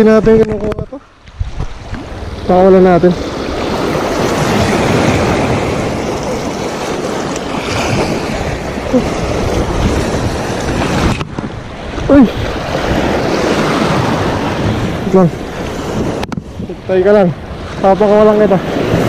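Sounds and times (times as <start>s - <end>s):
small waves breaking on rocks: 0.0s - 19.0s
wind buffeting microphone: 0.0s - 19.0s.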